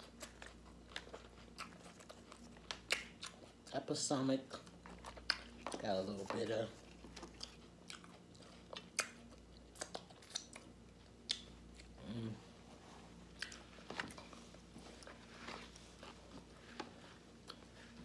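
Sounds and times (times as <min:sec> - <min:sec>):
person chewing crunchy food: 0:00.0 - 0:03.8, 0:04.5 - 0:18.0.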